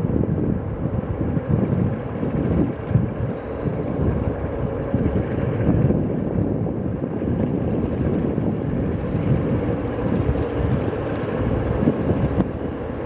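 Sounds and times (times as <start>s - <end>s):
diesel locomotive engine rumble: 0.0s - 13.0s
wind buffeting microphone: 0.0s - 13.0s.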